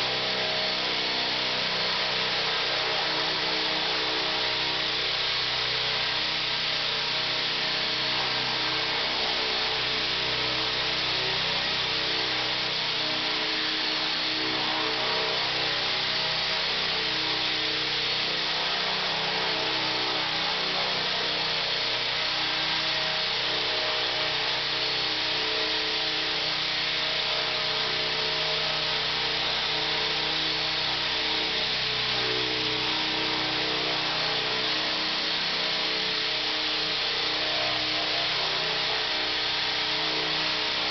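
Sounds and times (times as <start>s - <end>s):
rc helicopter hovering: 0.0s - 40.9s.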